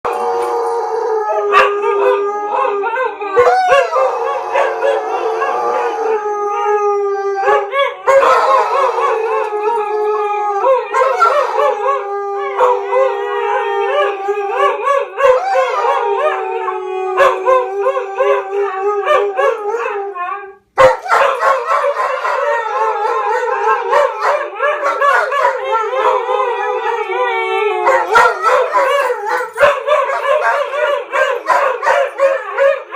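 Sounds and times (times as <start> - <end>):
dogs howling: 0.1 - 32.9.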